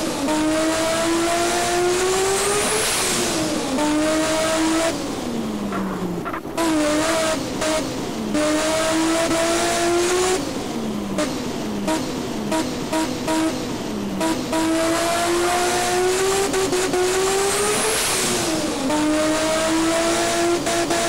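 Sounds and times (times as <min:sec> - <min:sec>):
car engine revving: 0:00.2 - 0:21.0.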